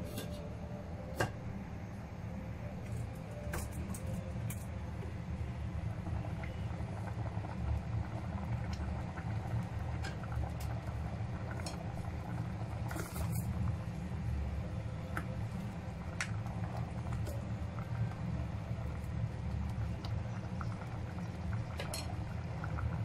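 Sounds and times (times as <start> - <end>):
steady low hum: 0.0 - 23.0
liquid bubbling in a pot: 4.0 - 23.0.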